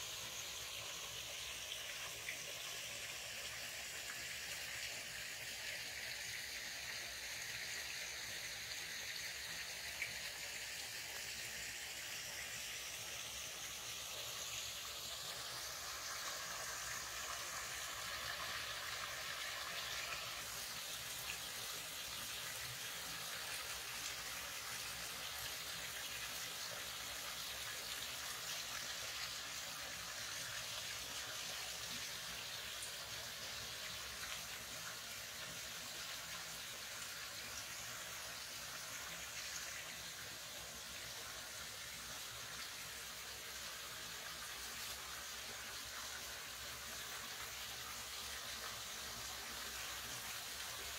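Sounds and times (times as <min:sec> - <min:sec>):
stream water rushing and splashing: 0:00.0 - 0:50.9.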